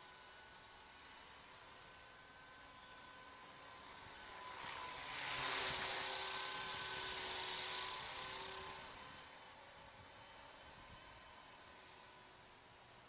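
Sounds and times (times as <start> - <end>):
rc helicopter flying past: 0.0 - 13.0.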